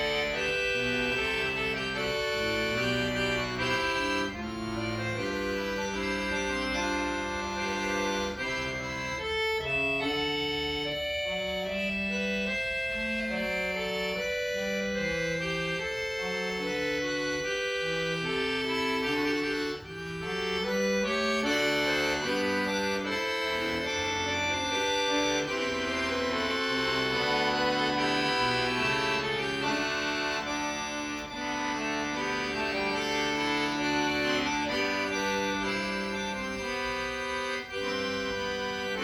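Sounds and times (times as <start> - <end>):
accordion playing: 0.0 - 39.0.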